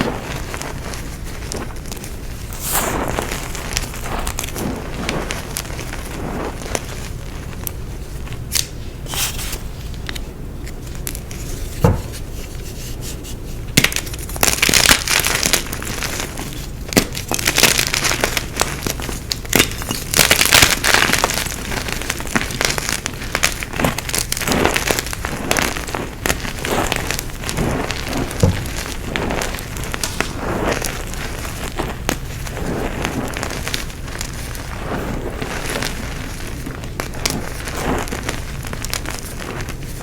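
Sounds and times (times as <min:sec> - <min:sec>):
chalk blocks crushed crunching: 0:00.0 - 0:07.7, 0:13.8 - 0:40.0.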